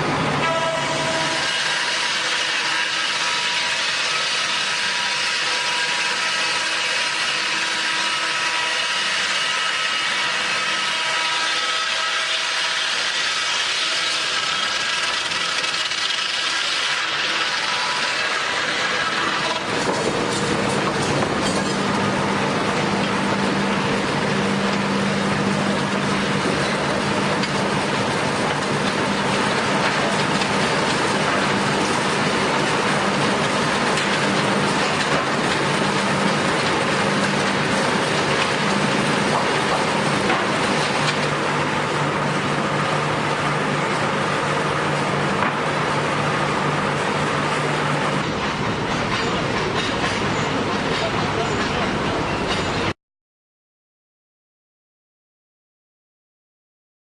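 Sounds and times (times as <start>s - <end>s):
machinery rumble and clatter: 0.0s - 53.0s.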